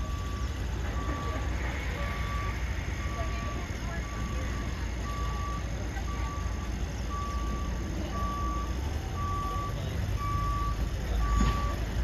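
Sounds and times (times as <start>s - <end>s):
backup alarm beeping: 0.0s - 11.8s
low engine rumble: 0.0s - 12.0s.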